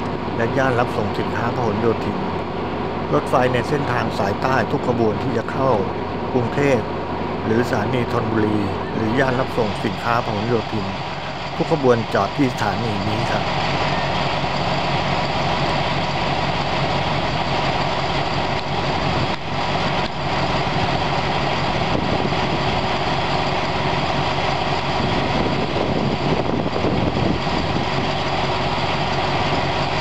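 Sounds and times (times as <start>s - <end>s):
diesel locomotive idling: 0.0s - 30.0s.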